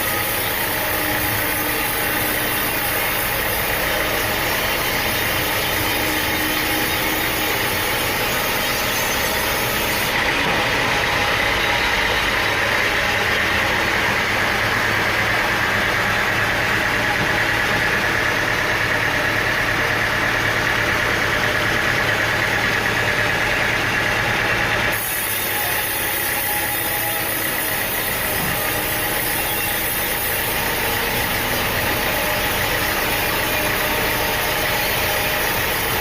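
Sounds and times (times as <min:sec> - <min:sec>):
high machine whine: 0:00.0 - 0:36.0
sawmill machinery running: 0:00.0 - 0:36.0.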